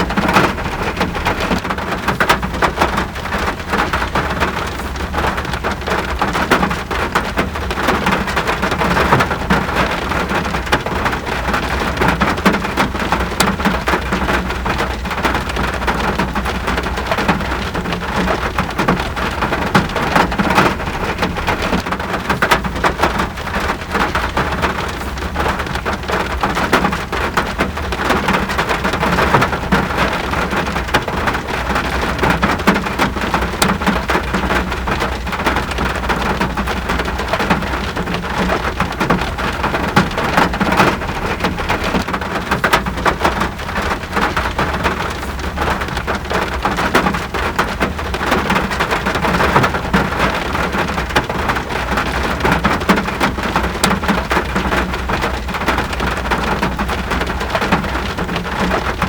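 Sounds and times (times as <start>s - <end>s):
raindrops striking a surface: 0.0s - 59.0s.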